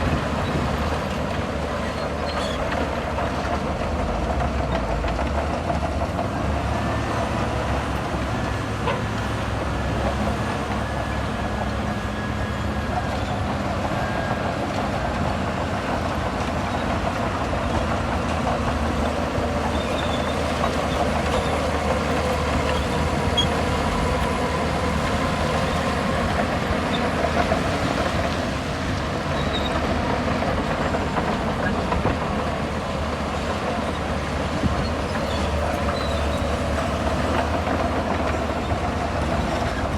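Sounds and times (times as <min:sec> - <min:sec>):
diesel engine running under load: 0:00.0 - 0:39.9
steel crawler tracks clattering: 0:00.0 - 0:39.9.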